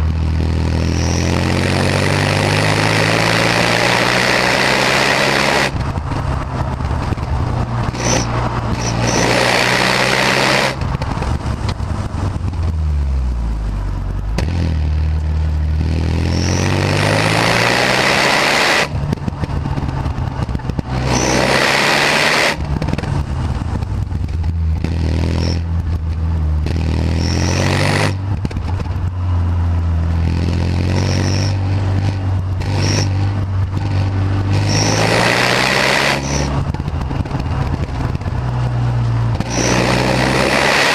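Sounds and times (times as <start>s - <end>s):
loud rushing noise: 0.0s - 13.6s, 14.2s - 40.9s
car engine revving: 0.0s - 40.9s.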